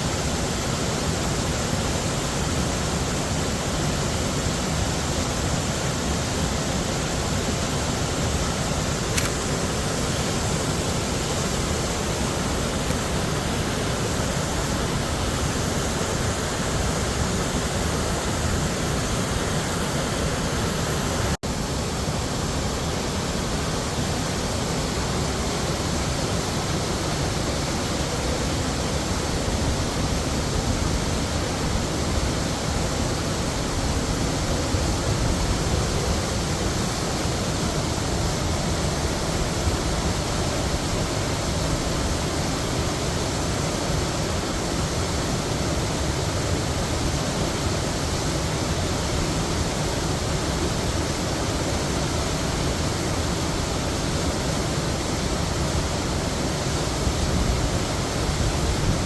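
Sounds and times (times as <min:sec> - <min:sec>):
heavy waterfall roaring: 0:00.0 - 0:59.0.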